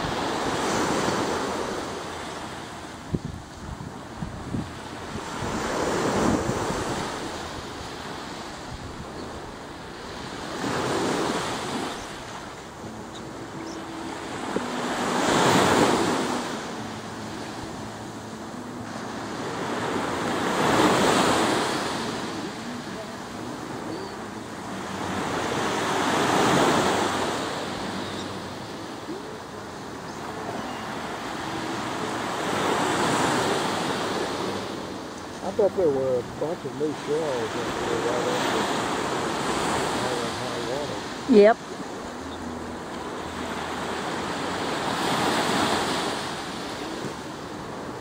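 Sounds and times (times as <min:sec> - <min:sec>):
small ocean waves breaking: 0:00.0 - 0:48.0.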